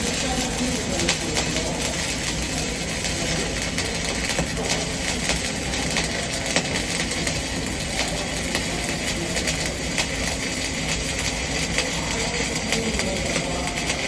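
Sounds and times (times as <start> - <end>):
welding arc crackling and hissing: 0.0 - 14.0.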